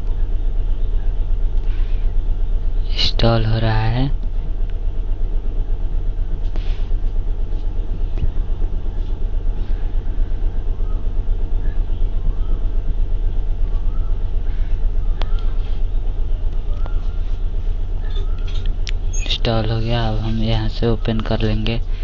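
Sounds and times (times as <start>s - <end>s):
low fluttering rumble: 0.0s - 22.0s.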